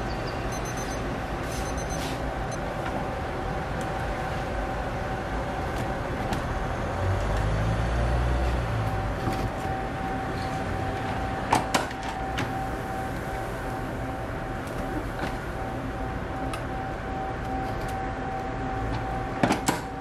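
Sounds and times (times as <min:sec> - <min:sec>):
thin steady whine: 0:00.0 - 0:20.0.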